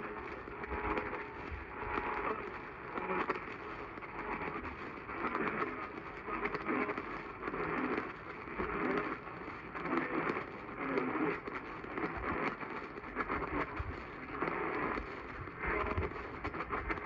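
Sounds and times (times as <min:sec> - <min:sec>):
muffled pulsing sound: 0:00.0 - 0:17.0
radio hiss and crackle: 0:00.0 - 0:17.0.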